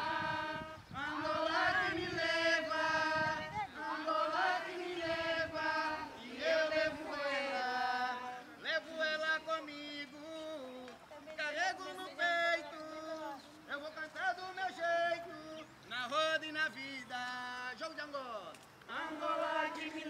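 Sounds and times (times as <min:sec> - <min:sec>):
voices chanting a song: 0:00.0 - 0:17.2, 0:18.9 - 0:20.0.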